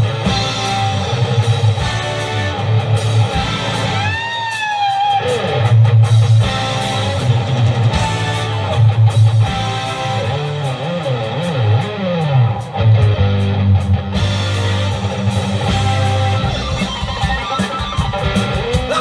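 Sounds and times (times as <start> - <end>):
bass guitar: 0.0 - 19.0
drums: 0.0 - 19.0
electric guitar solo: 0.0 - 19.0.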